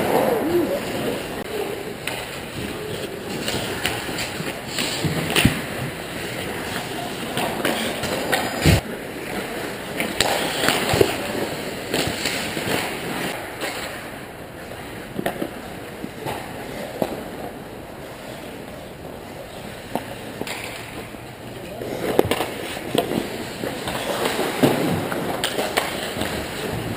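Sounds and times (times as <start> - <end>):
hockey sticks and puck clacking: 0.0 - 26.9
skates scraping on ice: 0.0 - 26.9.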